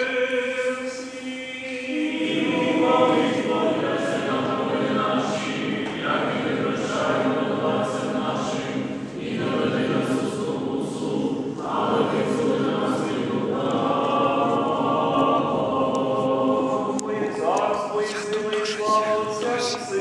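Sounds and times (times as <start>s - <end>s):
choir singing chant: 0.0s - 20.0s.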